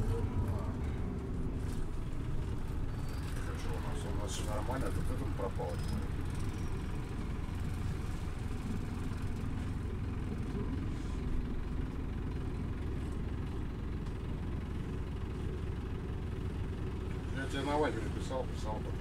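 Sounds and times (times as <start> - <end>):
bus engine rumble from inside: 0.0 - 19.0.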